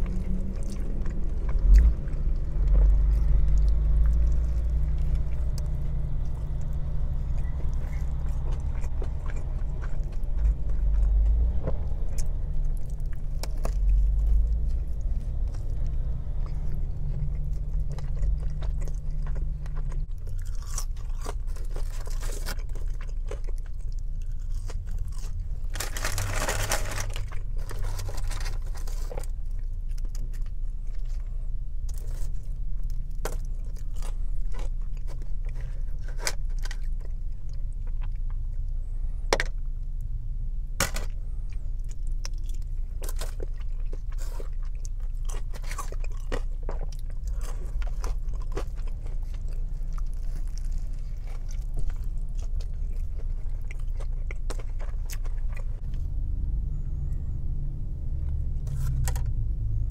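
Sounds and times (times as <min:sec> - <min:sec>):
close chewing and biting: 0:00.0 - 0:40.2, 0:40.8 - 0:56.1, 0:58.3 - 0:59.9.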